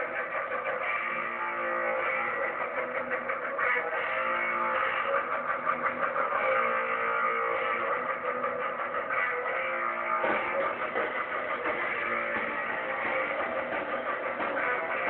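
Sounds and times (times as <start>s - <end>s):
guitar music through speakers: 0.0s - 15.0s.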